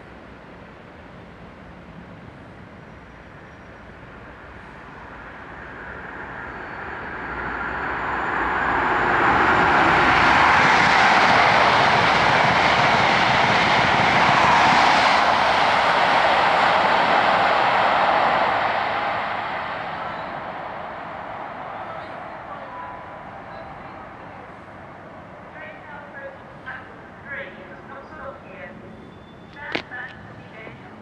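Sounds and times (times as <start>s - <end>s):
diesel locomotive engines: 0.0s - 31.0s.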